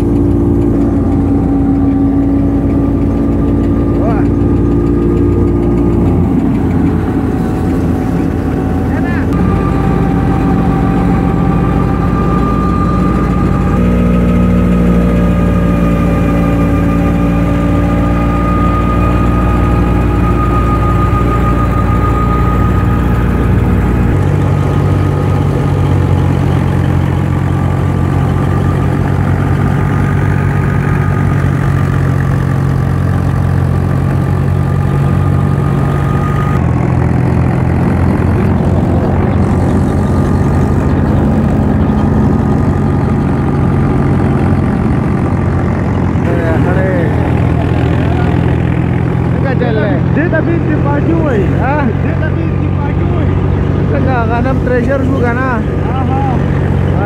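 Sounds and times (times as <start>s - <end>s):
high steady whine: 0.0s - 57.0s
thresher mechanical drone: 0.0s - 57.0s.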